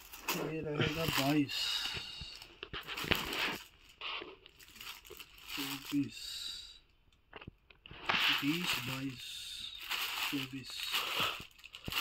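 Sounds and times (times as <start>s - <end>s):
plastic bags crinkling: 0.0s - 6.3s, 7.3s - 12.0s.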